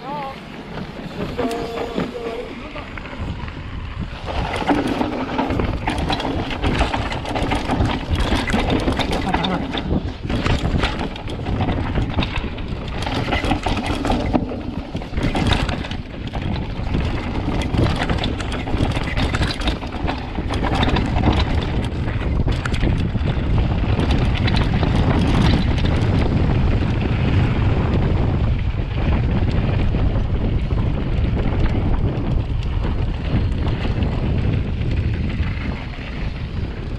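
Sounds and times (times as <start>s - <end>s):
bike tyres rumbling on dirt: 0.0s - 36.9s
wind buffeting microphone: 0.0s - 36.9s
bike knocks and rattles: 0.6s - 36.9s.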